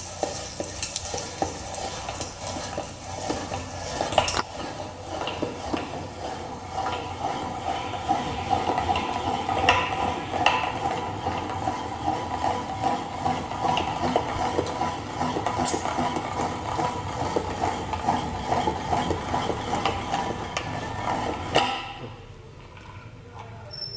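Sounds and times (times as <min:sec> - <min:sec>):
manual meat grinder grinding: 0:00.0 - 0:22.9.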